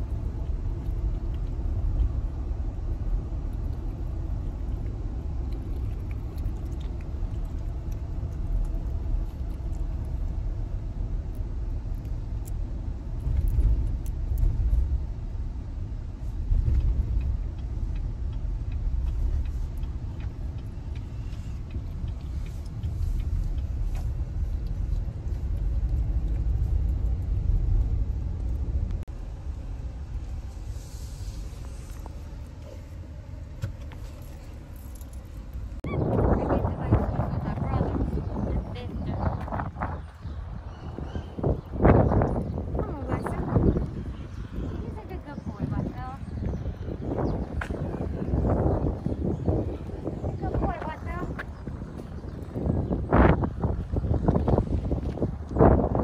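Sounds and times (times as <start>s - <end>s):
road and wind rumble in car: 0.0s - 56.0s.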